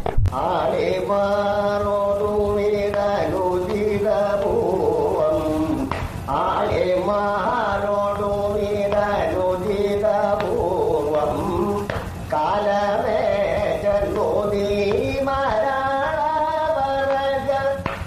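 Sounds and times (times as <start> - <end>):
man singing ornamented phrases: 0.3 - 18.0.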